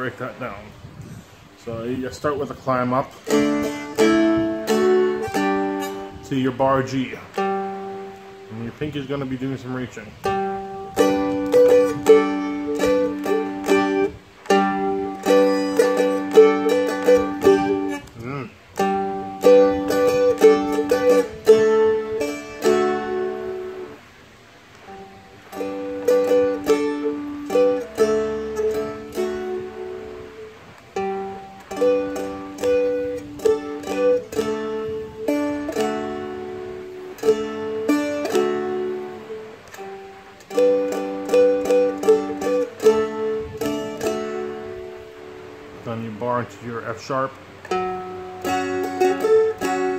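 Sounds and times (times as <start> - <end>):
dulcimer chords picked and strummed: 2.6 - 9.4, 10.2 - 49.9.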